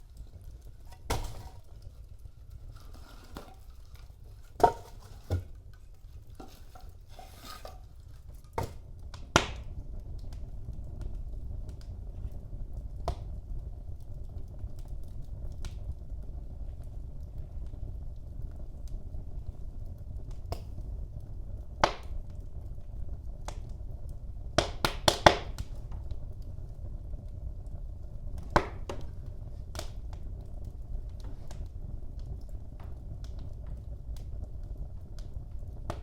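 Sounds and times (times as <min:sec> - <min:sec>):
fire crackling and popping: 0:00.0 - 0:36.0
rumble of flames: 0:00.0 - 0:36.0.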